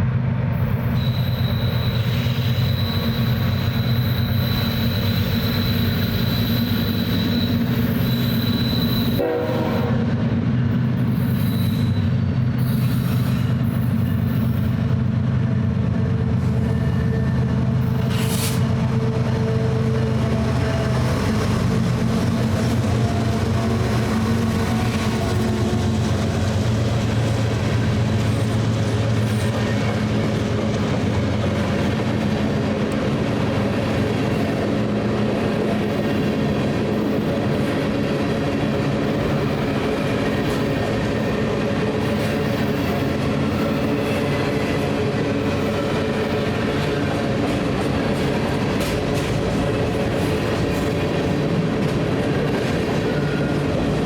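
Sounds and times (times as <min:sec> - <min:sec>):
diesel locomotive engine drone: 0:00.0 - 0:54.0
train wheels rumbling on rails: 0:00.0 - 0:54.0.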